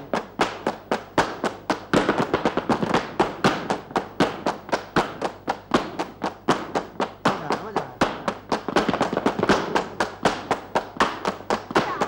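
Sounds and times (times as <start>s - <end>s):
dancer's footwork stamping: 0.0s - 12.0s
hand-clapping: 0.0s - 12.0s.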